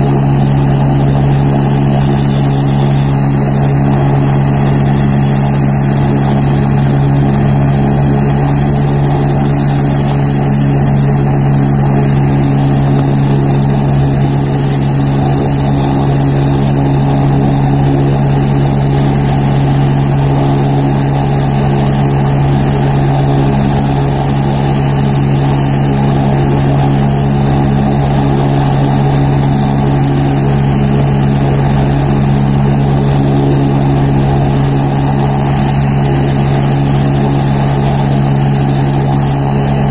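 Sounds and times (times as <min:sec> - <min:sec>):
helicopter rotor and engine drone: 0:00.0 - 0:39.9
high turbine whine: 0:00.0 - 0:39.9.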